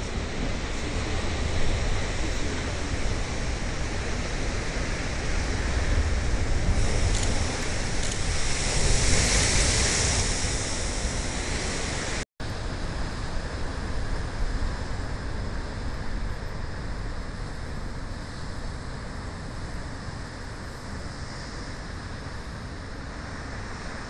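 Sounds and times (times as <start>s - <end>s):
rumble of breaking waves: 0.0s - 24.0s
wind buffeting microphone: 0.0s - 24.0s.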